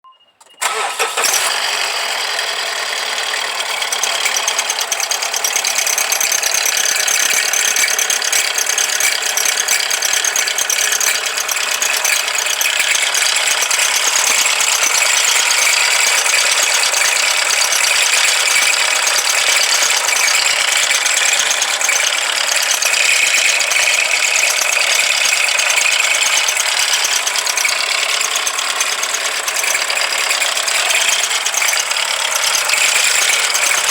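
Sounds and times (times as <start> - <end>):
engine ticking rattle: 0.4 - 33.9.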